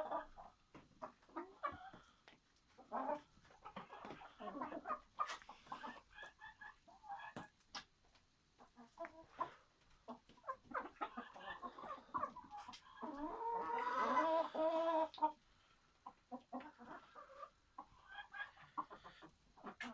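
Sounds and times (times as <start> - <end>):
chickens clucking: 0.0 - 19.9.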